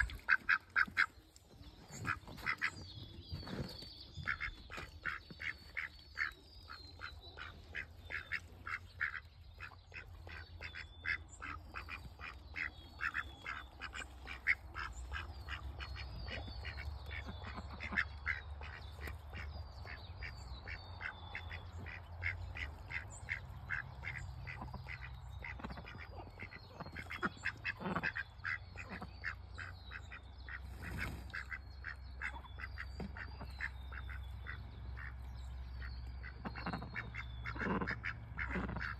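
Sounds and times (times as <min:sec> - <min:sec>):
ducks quacking: 0:00.0 - 0:01.2, 0:01.8 - 0:38.9.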